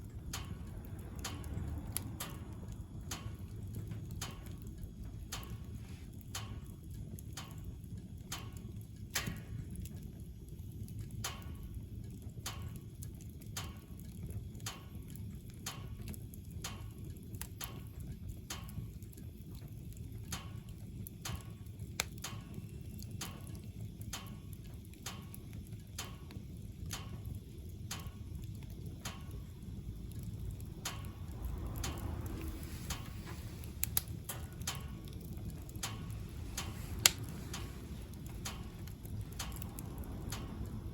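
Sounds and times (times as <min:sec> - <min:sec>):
fire crackling: 0:00.0 - 0:40.9
wood stove fire rumbling: 0:00.0 - 0:40.9.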